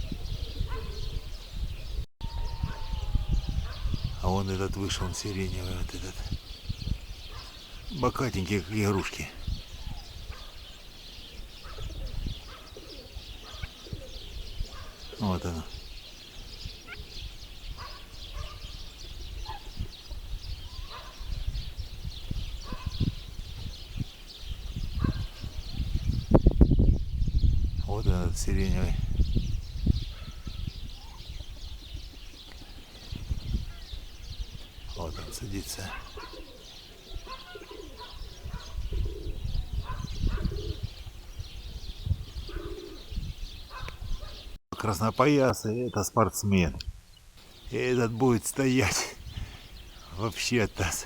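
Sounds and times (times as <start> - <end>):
pigeons cooing: 0.0 - 26.8, 27.6 - 44.6
low bird calls: 0.0 - 51.0
small birds chirping: 0.0 - 51.0.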